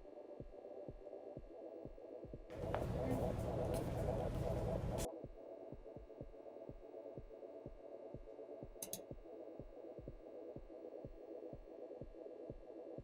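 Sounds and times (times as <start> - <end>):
faint steady tones: 2.5 - 13.0.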